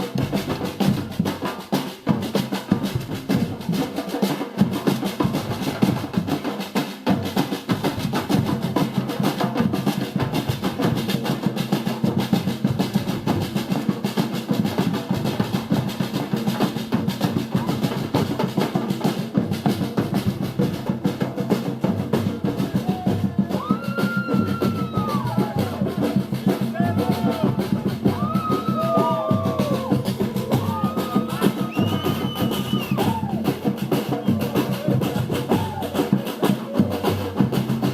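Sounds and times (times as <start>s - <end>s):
samba drums playing: 0.0s - 37.9s.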